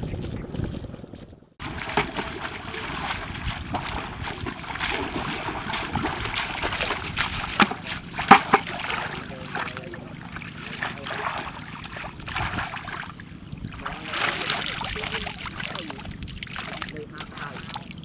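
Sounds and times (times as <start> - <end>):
water splashing and sloshing: 1.6 - 18.0.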